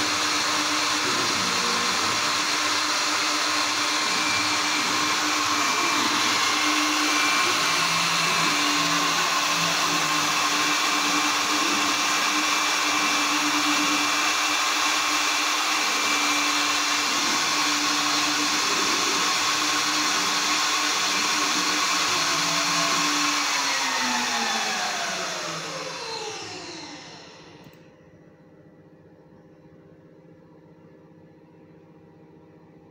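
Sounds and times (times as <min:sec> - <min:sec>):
motor winding down: 0:00.0 - 0:27.8
spindle motor whining: 0:00.0 - 0:27.8.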